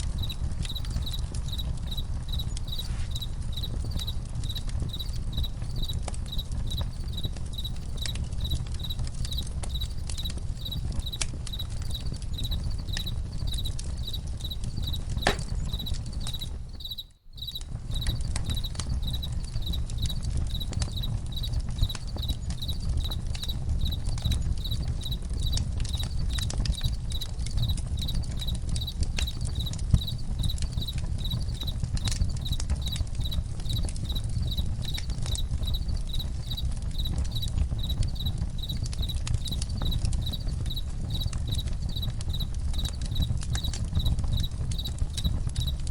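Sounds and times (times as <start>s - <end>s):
campfire crackling and popping: 0.0s - 45.9s
crickets chirping: 0.0s - 45.9s.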